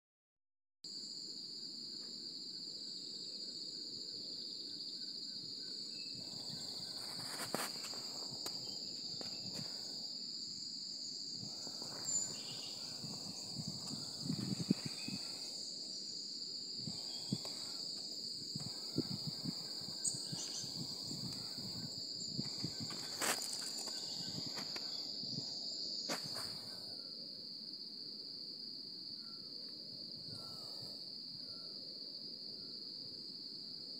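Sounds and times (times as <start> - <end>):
high-pitched insect chorus: 0.9 - 33.9.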